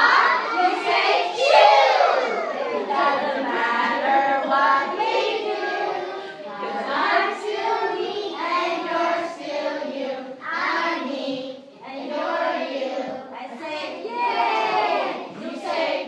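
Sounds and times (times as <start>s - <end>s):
children singing in chorus: 0.0s - 16.0s.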